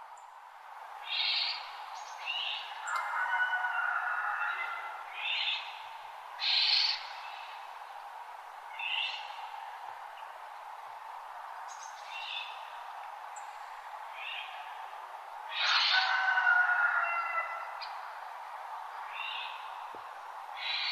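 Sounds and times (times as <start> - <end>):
steady background hiss: 0.0 - 20.9.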